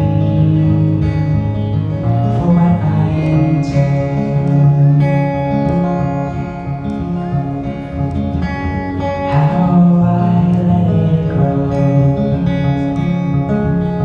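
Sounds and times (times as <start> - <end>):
person singing: 0.0 - 14.0
strummed acoustic guitar: 0.0 - 14.0.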